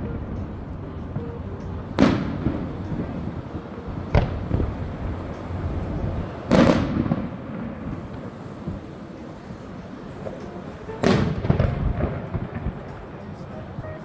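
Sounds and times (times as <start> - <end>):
fireworks bangs: 1.9 - 14.0.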